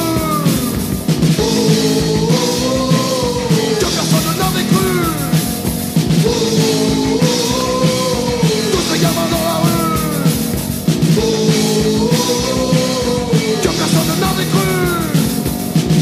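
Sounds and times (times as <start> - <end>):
punk rock band playing: 0.0 - 16.0.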